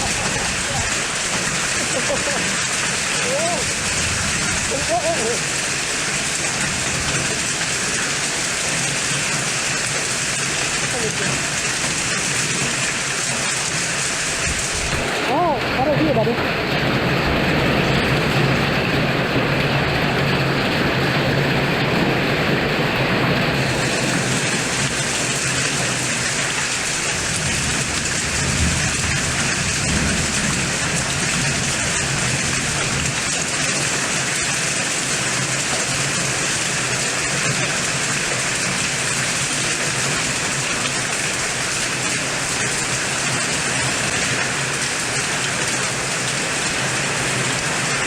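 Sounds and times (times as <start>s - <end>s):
heavy rain downpour: 0.0s - 48.0s.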